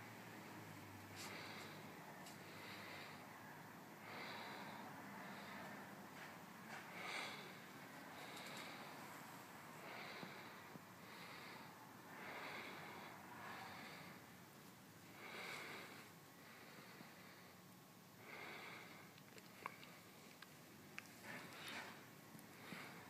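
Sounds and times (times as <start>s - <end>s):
faint breathing: 0.4s - 23.0s.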